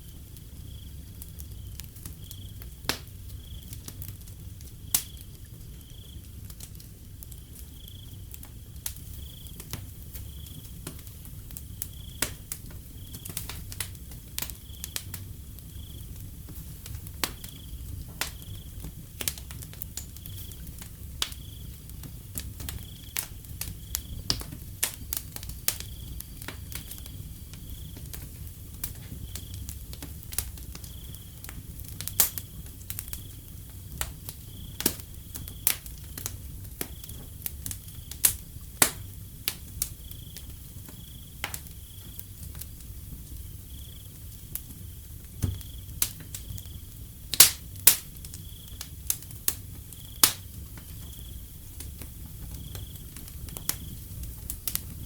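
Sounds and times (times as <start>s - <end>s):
cricket chirping: 0.0s - 6.6s, 7.3s - 55.0s
wood fire crackling and popping: 0.0s - 55.0s.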